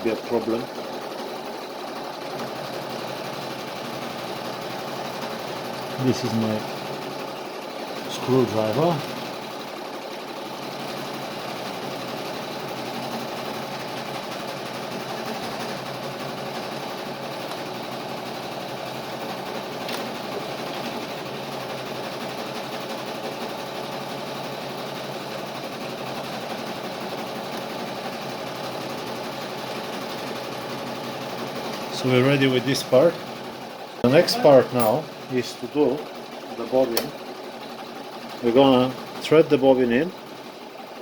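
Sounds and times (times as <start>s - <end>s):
motor humming: 0.0s - 37.8s.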